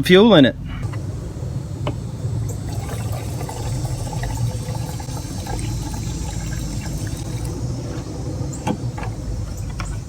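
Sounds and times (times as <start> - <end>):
fuel pouring into a tank: 0.8 - 10.0.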